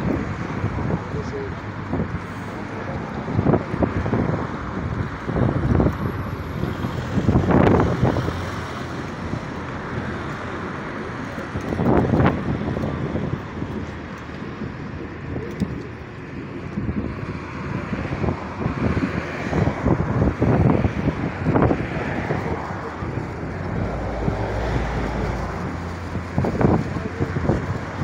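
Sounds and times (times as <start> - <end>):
road traffic noise: 0.0 - 28.0
wind on microphone: 0.0 - 28.0.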